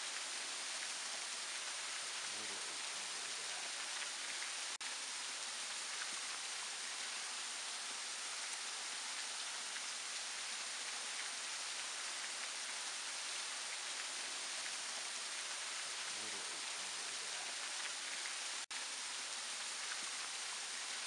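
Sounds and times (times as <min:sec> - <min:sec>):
waterfall splashing: 0:00.0 - 0:21.0
water drips pattering: 0:00.1 - 0:04.9, 0:05.7 - 0:18.8.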